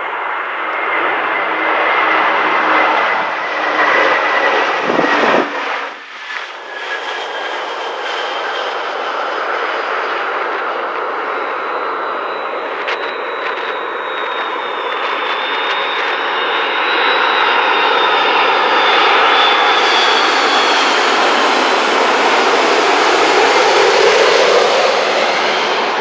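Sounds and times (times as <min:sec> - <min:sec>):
airliner engines high whine: 0:00.0 - 0:26.0
jet airliner passing overhead: 0:00.0 - 0:26.0.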